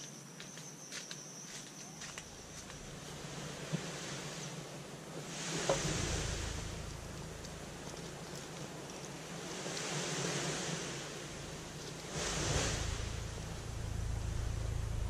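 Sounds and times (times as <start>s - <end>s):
wind and surf hissing: 1.5s - 15.0s
wind rumble on microphone: 2.4s - 15.0s.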